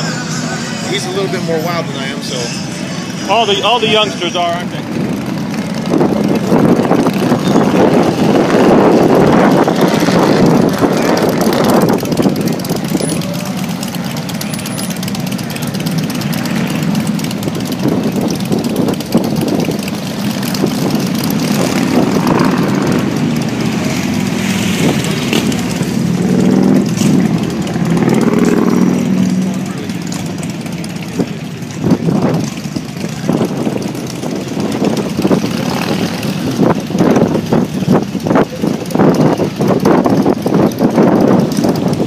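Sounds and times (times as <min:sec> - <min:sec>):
motorcycles passing close by: 0:00.0 - 0:42.0
steady traffic rumble: 0:00.0 - 0:42.0.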